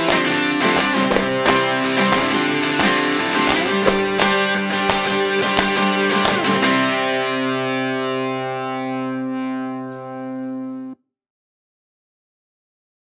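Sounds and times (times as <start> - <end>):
strummed guitar chord ringing: 0.0 - 11.0.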